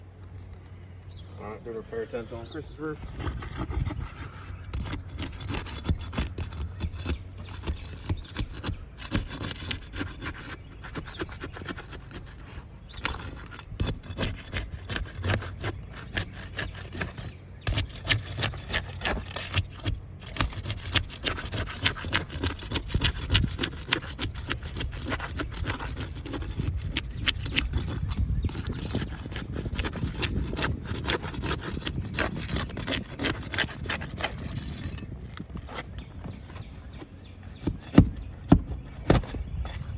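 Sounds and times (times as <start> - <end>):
steady low hum: 0.0 - 39.9
scraping and rubbing strokes: 1.7 - 39.9.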